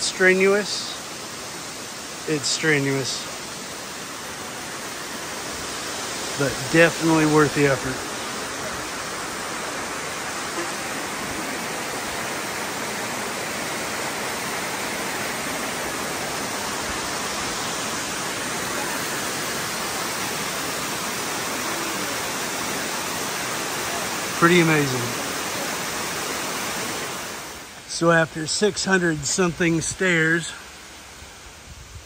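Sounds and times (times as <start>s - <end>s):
waterfall rushing over rock: 0.0s - 32.0s.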